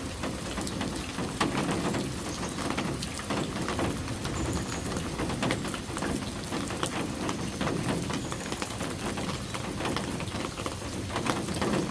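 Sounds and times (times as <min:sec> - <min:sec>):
raindrops ticking: 0:00.0 - 0:11.9
steady rain falling: 0:00.0 - 0:11.9.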